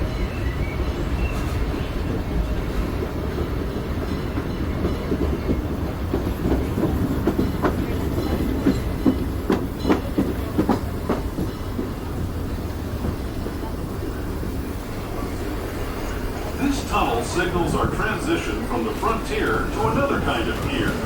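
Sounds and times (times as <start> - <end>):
wheels clacking over rail joints: 0.0 - 14.2, 14.8 - 21.0
train rumble: 0.0 - 21.0.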